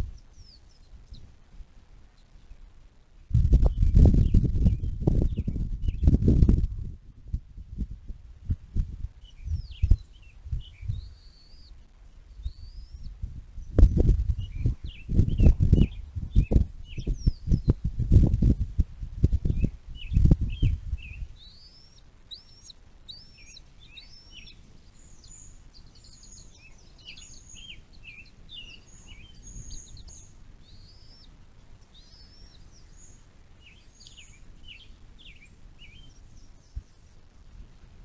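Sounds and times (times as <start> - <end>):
birds chirping: 0.0 - 1.4, 2.0 - 6.2, 9.2 - 18.8, 19.4 - 37.3.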